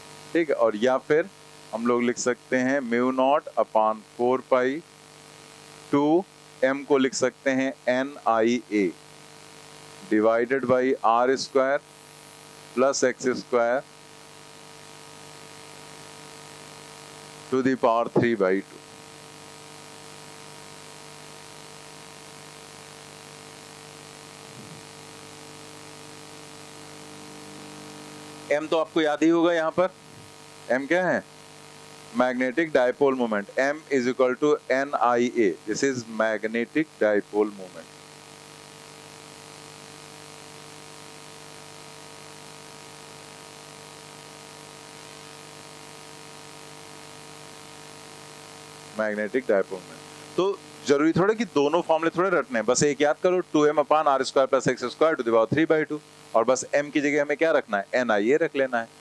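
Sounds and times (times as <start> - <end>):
constant hiss: 0.0 - 59.0
steady electrical hum: 0.0 - 59.0.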